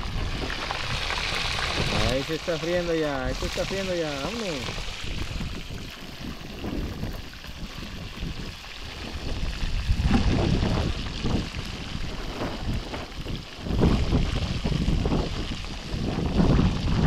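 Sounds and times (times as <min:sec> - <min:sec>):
fish frying in hot oil: 0:00.0 - 0:17.0
wind buffeting microphone: 0:00.0 - 0:17.0.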